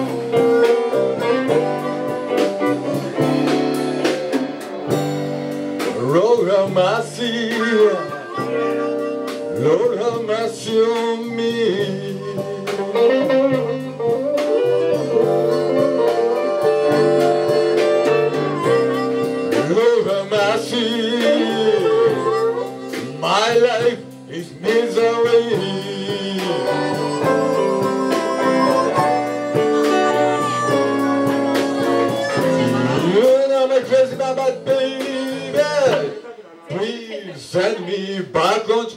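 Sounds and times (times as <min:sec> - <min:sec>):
sliding lead guitar melody: 0:00.0 - 0:36.7
live blues band playing: 0:00.0 - 0:38.9.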